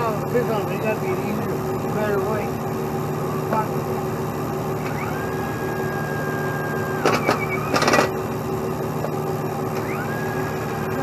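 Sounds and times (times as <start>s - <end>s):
heavy truck engine running: 0.0s - 11.0s
high steady whine: 0.0s - 11.0s.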